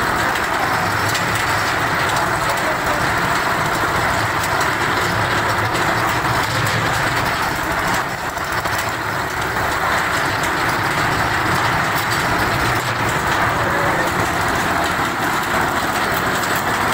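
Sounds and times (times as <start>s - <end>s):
concrete mixer motor din: 0.0s - 16.9s.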